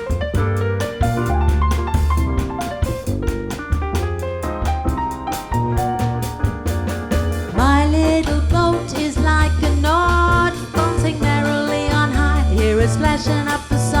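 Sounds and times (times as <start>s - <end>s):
jazz band playing bossa nova: 0.0s - 14.0s.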